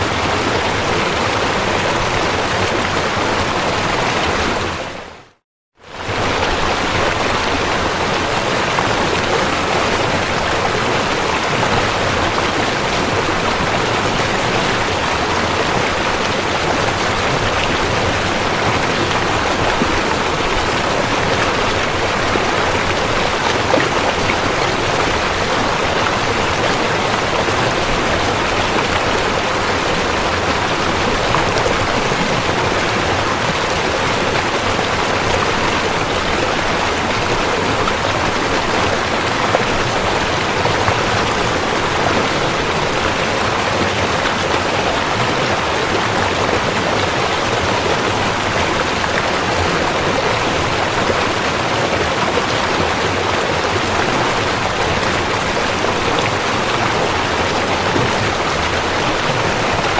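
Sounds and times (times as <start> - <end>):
rushing river water: 0.0 - 59.9.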